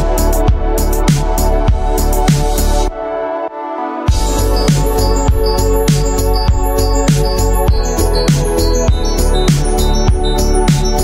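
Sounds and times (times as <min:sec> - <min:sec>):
heavy bass beat: 0:00.0 - 0:02.9, 0:04.1 - 0:11.0.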